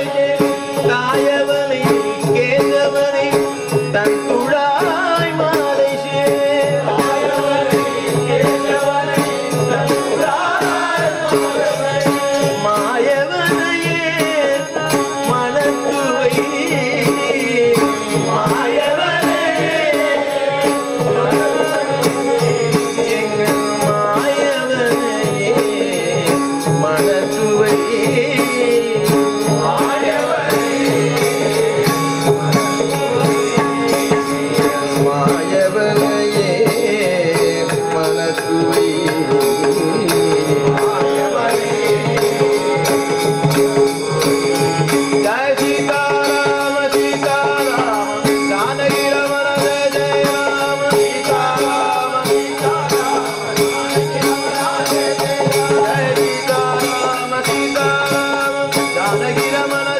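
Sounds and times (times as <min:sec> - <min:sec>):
drum played in steady rhythm: 0:00.0 - 0:59.9
harmonium held tones: 0:00.0 - 0:59.9
jingling hand cymbals: 0:00.0 - 0:59.9
man singing: 0:00.0 - 0:59.9.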